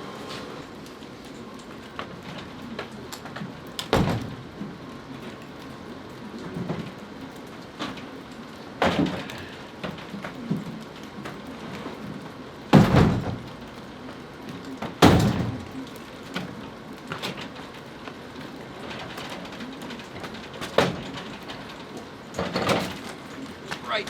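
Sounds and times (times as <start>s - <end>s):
light rain hiss: 0.0s - 24.0s.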